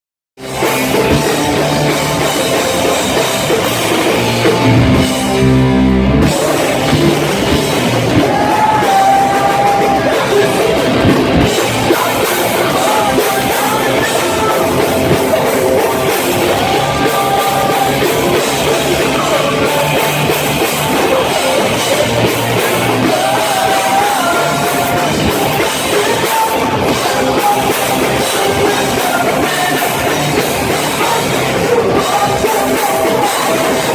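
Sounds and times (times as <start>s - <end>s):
distorted electric guitars: 0.4s - 33.9s
drum kit: 0.4s - 33.9s
person singing: 6.2s - 33.9s.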